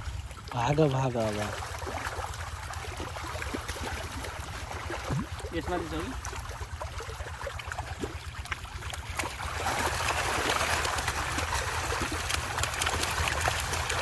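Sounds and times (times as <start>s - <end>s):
pond water splashing and trickling: 0.0s - 14.0s.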